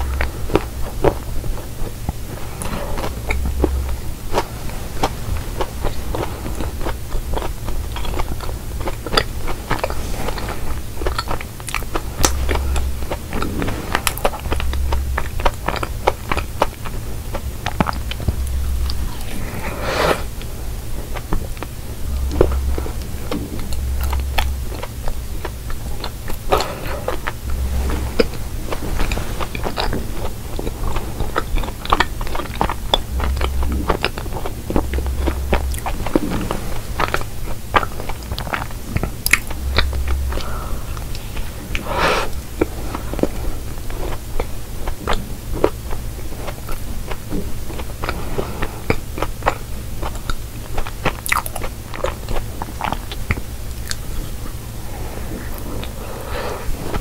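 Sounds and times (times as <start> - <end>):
chewing crunchy pastry: 0.0 - 57.0.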